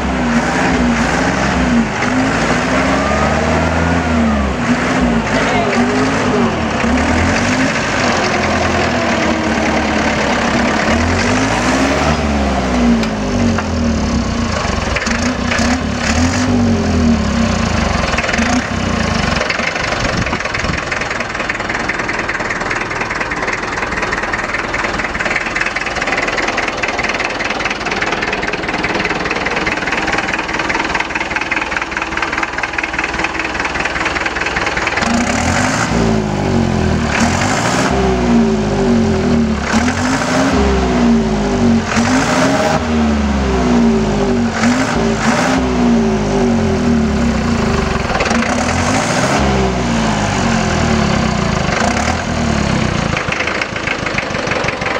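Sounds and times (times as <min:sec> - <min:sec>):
tractor engine revving: 0:00.0 - 0:54.9.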